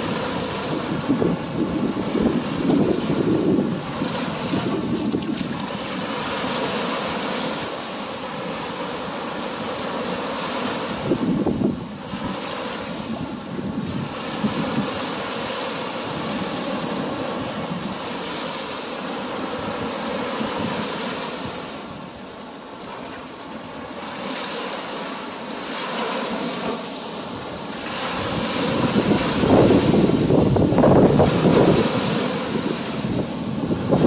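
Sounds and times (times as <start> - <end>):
wind on microphone: 0.0 - 22.3, 25.7 - 34.0
small waves breaking on beach: 0.0 - 34.0.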